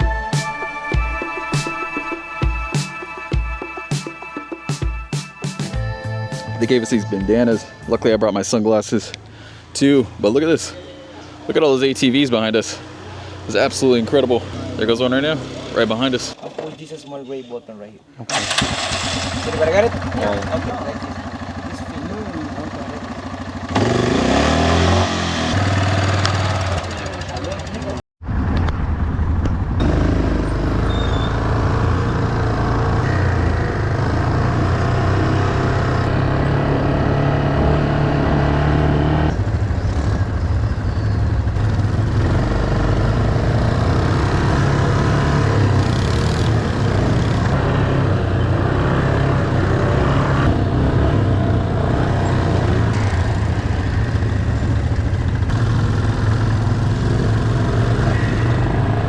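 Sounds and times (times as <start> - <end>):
atv engine revving: 8.3 - 17.6, 18.3 - 28.0, 29.8 - 59.0.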